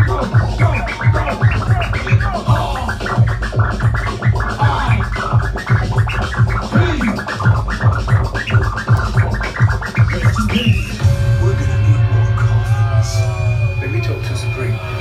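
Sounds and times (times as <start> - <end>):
heavy breakbeat with deep bass: 0.0 - 15.0
record scratching: 0.0 - 15.0.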